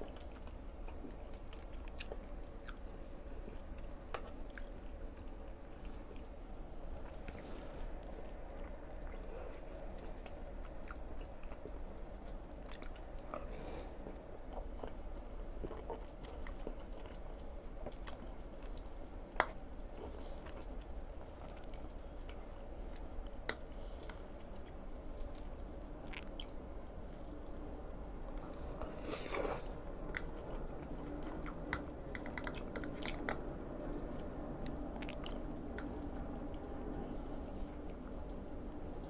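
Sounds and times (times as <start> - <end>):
chewing food: 0.0 - 39.0
low steady hum: 0.0 - 39.0.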